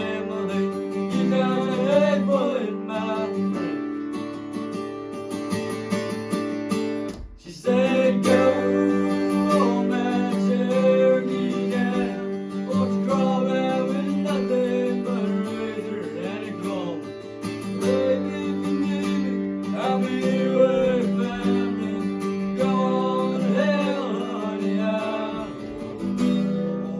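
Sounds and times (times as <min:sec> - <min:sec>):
acoustic guitar strumming chords: 0:00.0 - 0:26.9.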